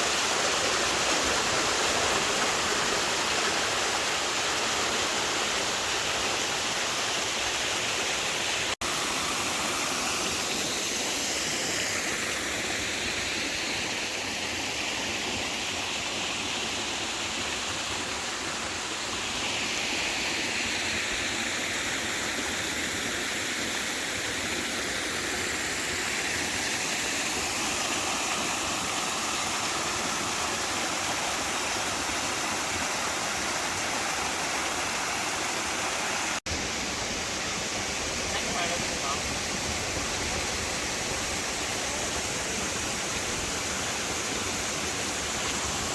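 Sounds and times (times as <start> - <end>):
rushing water: 0.0 - 45.9.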